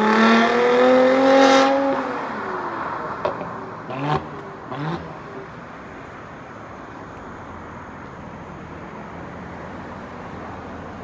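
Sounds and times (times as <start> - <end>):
faint road and traffic noise: 0.0 - 11.0.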